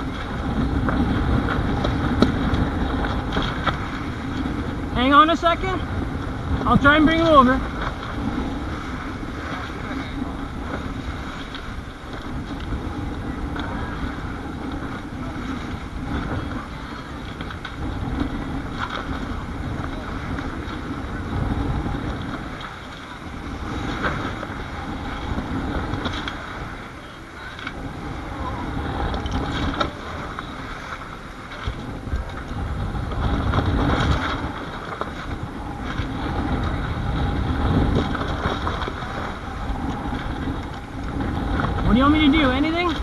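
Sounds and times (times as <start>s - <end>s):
water rushing along hull: 0.0s - 43.0s
wind buffeting microphone: 0.0s - 43.0s.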